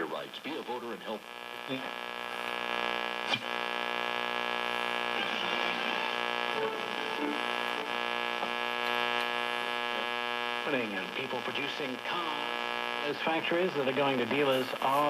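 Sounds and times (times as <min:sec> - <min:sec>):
faint radio broadcast: 0:00.0 - 0:15.0
radio speaker hum: 0:00.0 - 0:15.0
radio click: 0:00.4 - 0:15.0.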